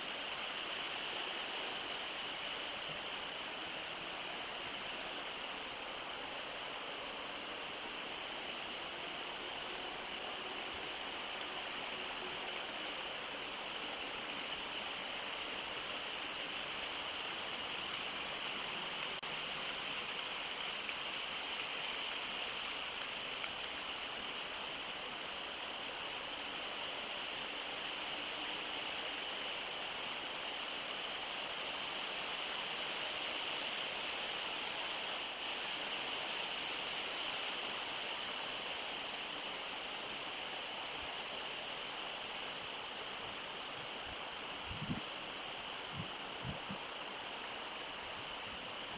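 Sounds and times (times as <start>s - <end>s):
outdoor ambient hiss: 0.0s - 48.9s.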